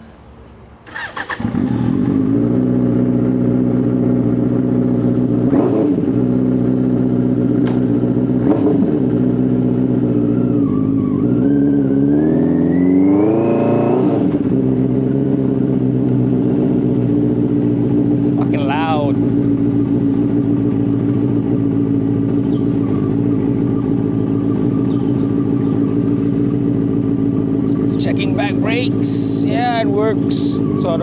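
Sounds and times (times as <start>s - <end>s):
motorcycle engine starting and revving: 0.0s - 31.0s.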